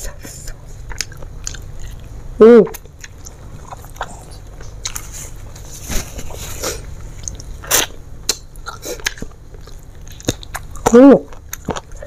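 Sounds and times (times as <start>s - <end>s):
wet chewing and crunching: 0.6s - 12.0s.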